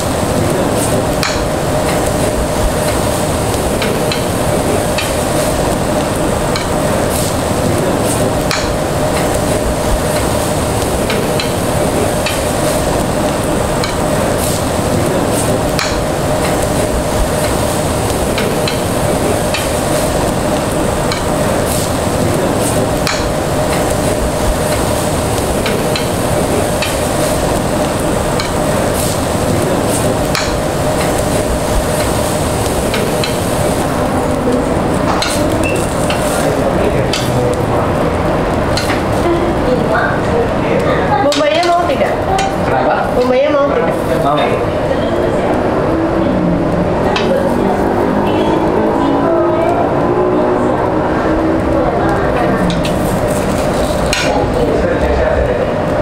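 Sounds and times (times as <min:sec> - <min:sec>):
meat sizzling on grill plate: 0:00.0 - 0:44.9
steady hum: 0:00.0 - 0:56.0.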